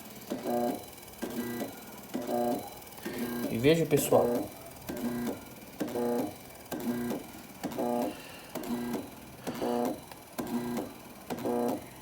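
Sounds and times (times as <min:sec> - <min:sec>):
pulsing electrical buzz: 0:00.0 - 0:11.9.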